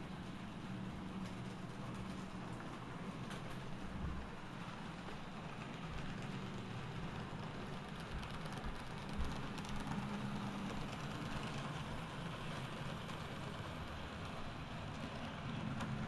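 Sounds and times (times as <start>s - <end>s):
wheels rattling on rail: 0.0s - 16.0s.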